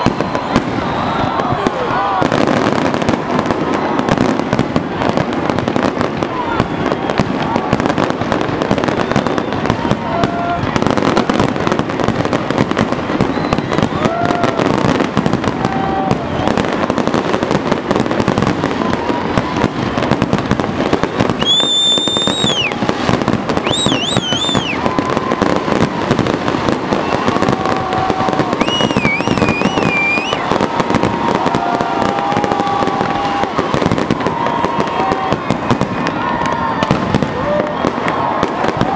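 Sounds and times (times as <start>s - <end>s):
firework whistles: 0.0s - 38.8s
faint crowd voices: 0.0s - 38.9s
fireworks bangs and crackling: 0.0s - 38.9s.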